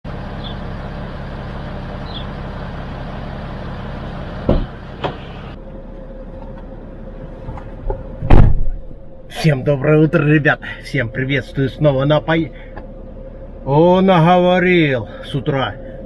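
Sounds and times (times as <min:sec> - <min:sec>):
truck diesel engine idling: 0:00.1 - 0:16.0.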